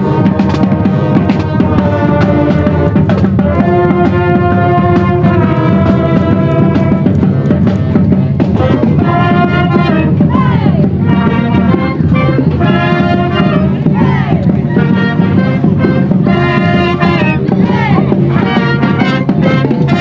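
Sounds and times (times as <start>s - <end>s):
brass melody: 0.0s - 20.0s
snare and bass drums: 0.0s - 20.0s.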